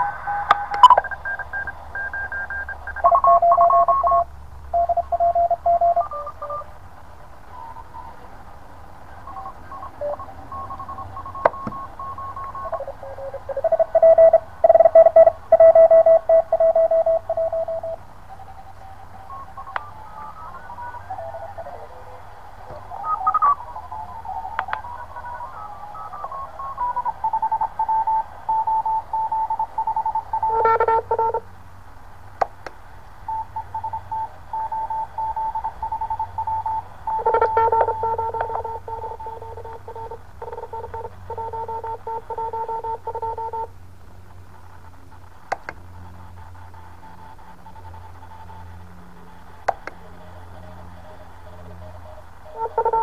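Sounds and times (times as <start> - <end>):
lower-pitched morse code beeps: 0.0 - 6.7, 9.2 - 22.1, 22.8 - 31.4, 33.3 - 43.7, 46.0 - 53.0
morse code beeps: 0.0 - 6.7, 9.2 - 22.0, 22.9 - 31.4, 33.3 - 43.7, 46.0 - 53.0.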